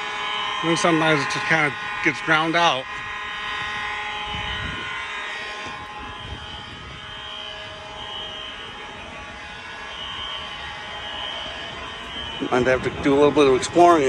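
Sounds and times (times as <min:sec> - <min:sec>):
fire alarm steady tone: 0:00.0 - 0:14.0
passing traffic rumble: 0:00.0 - 0:14.0.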